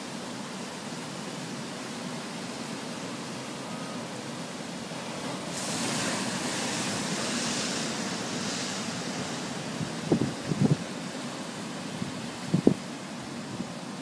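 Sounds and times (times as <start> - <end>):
ocean surf against rocks: 0.0 - 14.0.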